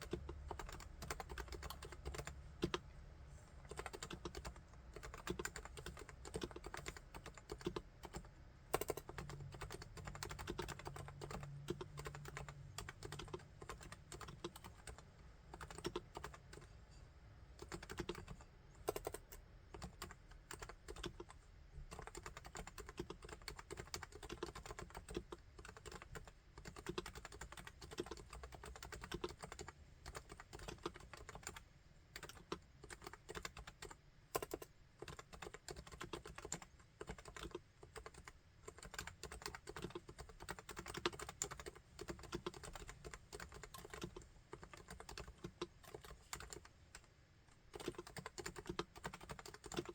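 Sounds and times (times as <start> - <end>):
keyboard typing: 0.0 - 2.9, 3.7 - 16.7, 17.6 - 31.6, 32.2 - 47.1, 47.7 - 49.9.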